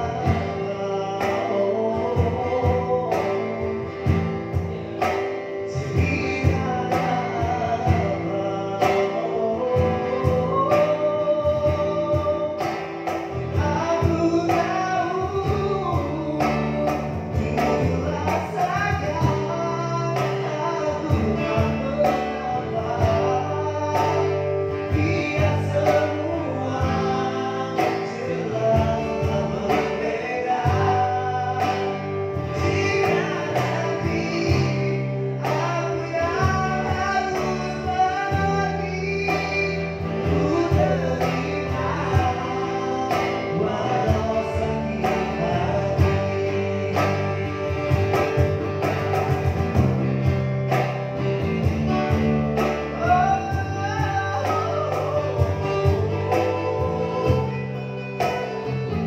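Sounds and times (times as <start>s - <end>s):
men singing together: 0.0s - 48.6s, 51.2s - 59.0s
cajon beats: 0.0s - 59.0s
strummed acoustic guitar: 0.0s - 59.0s.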